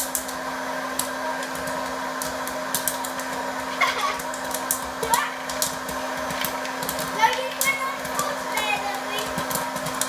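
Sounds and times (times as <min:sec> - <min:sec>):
popcorn kernels popping: 0:00.0 - 0:10.0
popcorn maker fan whir: 0:00.0 - 0:10.0.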